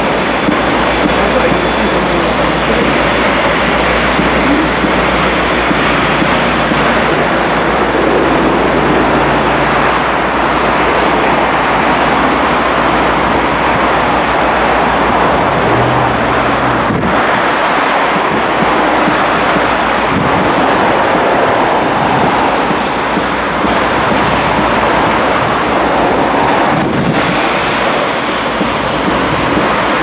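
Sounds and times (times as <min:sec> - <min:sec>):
diesel locomotive engine running: 0:00.0 - 0:30.0
wind rumble on microphone: 0:00.0 - 0:30.0.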